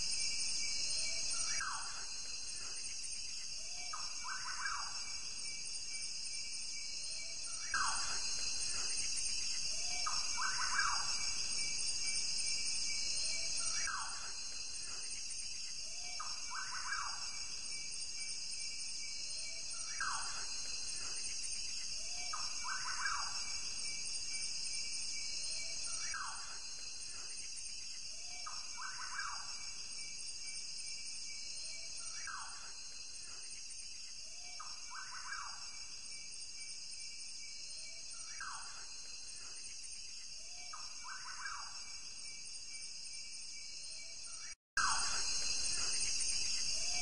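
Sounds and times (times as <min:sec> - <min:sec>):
high chorus of insects: 0:00.0 - 0:47.0.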